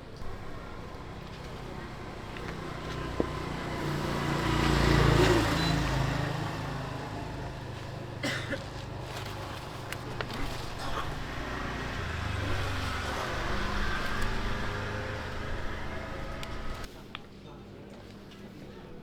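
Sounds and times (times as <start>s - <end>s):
vehicle engine passing by: 0.2s - 8.2s, 9.1s - 16.9s.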